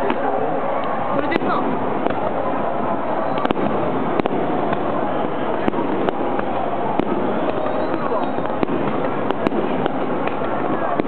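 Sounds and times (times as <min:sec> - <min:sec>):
firework shells bursting: 0:00.0 - 0:11.0
steady background din: 0:00.0 - 0:11.0.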